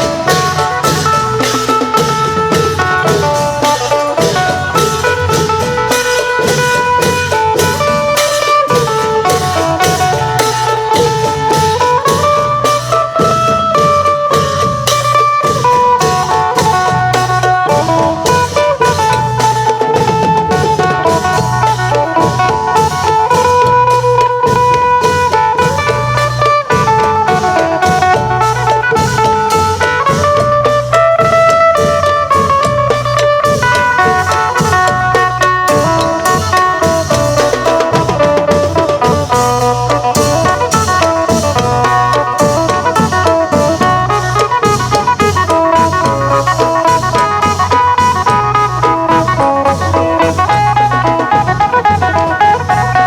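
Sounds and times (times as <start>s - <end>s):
hand cymbal strikes: 0.0s - 53.0s
long drums playing rhythm: 0.0s - 53.0s
plucked lute melody: 0.0s - 53.0s.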